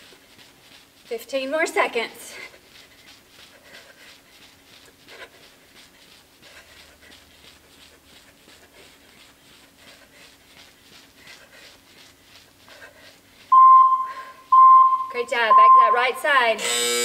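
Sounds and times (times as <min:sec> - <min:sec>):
woman panting: 0:00.0 - 0:14.5.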